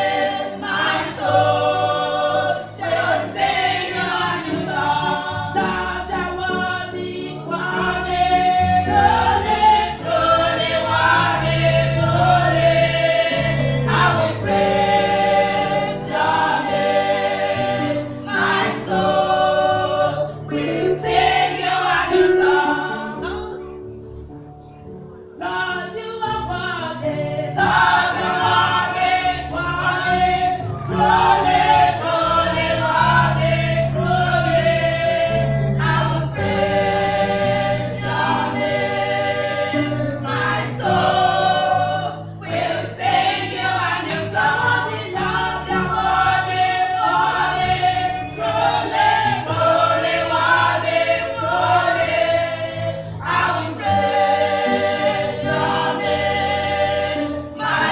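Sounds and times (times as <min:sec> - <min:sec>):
choir singing gospel song: 0:00.0 - 0:24.2, 0:25.3 - 0:57.9.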